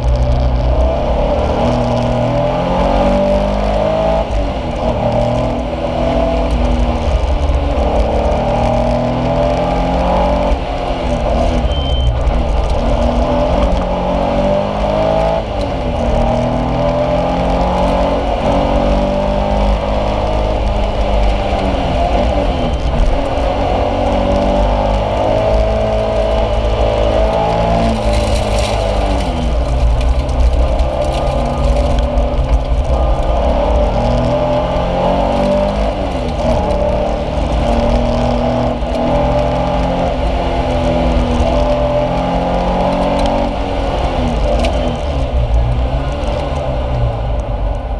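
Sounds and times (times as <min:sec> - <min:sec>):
car engine revving: 0:00.0 - 0:47.9
road and tyre rumble: 0:00.0 - 0:47.9.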